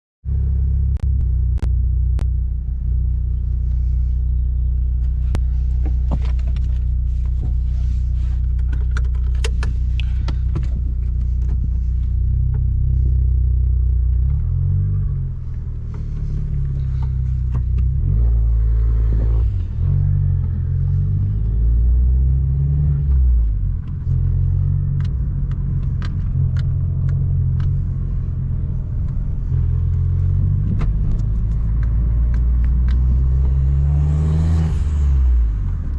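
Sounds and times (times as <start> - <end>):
car engine idling: 0.3 - 22.3, 23.1 - 33.9.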